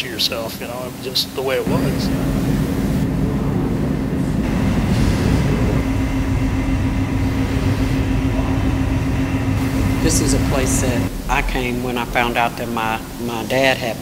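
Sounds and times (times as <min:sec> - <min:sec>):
constant low hum: 0:00.0 - 0:14.0
low rumble: 0:01.5 - 0:14.0.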